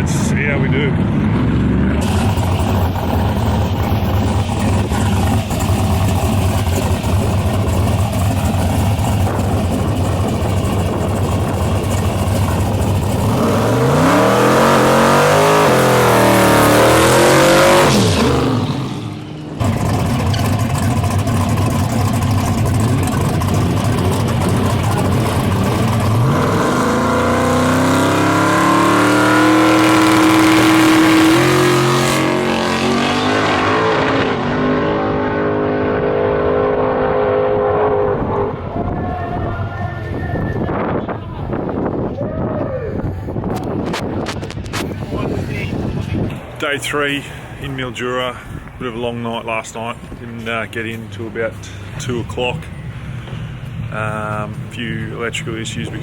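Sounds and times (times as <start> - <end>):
car engine revving: 0.0 - 39.1, 43.4 - 56.0.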